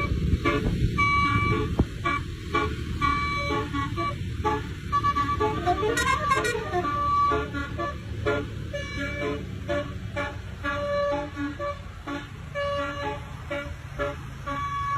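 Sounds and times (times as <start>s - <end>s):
horn playing a tune: 0.0s - 14.9s.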